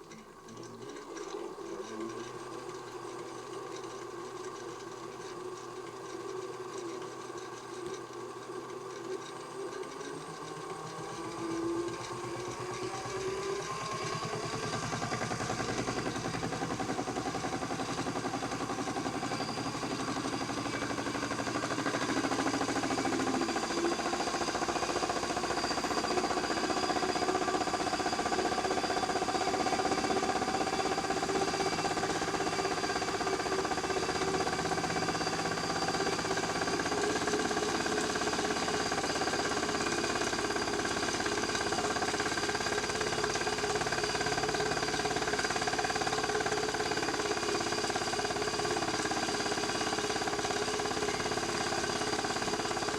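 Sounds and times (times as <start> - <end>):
toy washing machine motor whine: 0.0 - 52.9.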